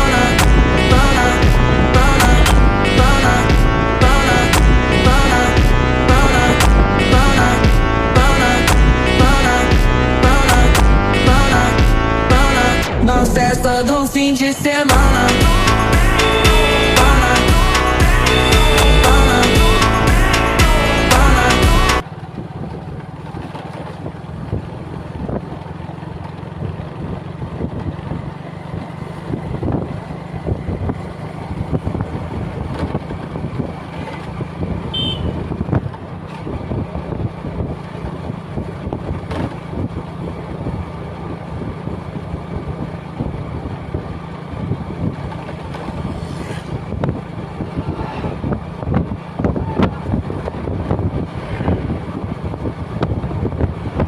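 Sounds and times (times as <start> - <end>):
road noise: 0.0 - 54.0
vehicle engine rumble: 0.0 - 54.0.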